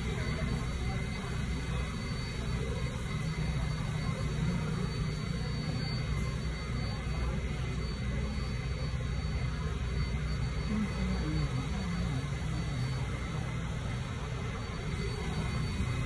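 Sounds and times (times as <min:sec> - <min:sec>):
faint high whine: 0:00.0 - 0:16.0
subway train humming at platform: 0:00.0 - 0:16.0.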